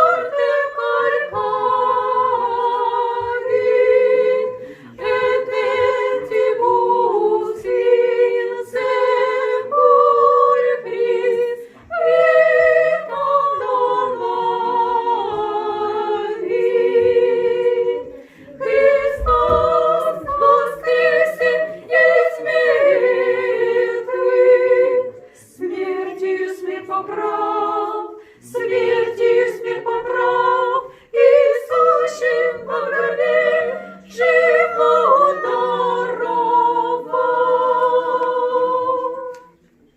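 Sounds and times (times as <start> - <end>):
choir singing chant a cappella: 0.0 - 39.9.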